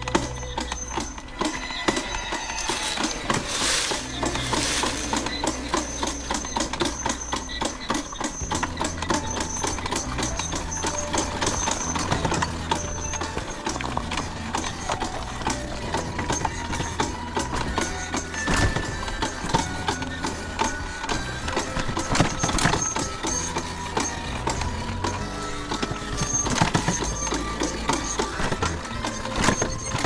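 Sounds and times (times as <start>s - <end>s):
low bass line: 3.5s - 30.0s.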